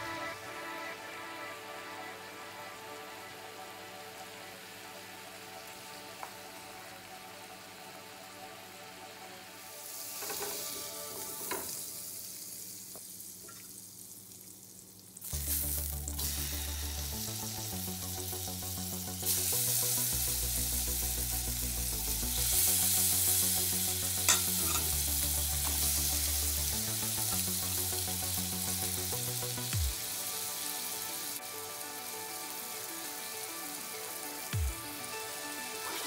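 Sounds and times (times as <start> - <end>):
background music with deep bass: 0.0 - 12.2, 15.2 - 36.0
shrimp sizzling in a frying pan: 4.2 - 36.0.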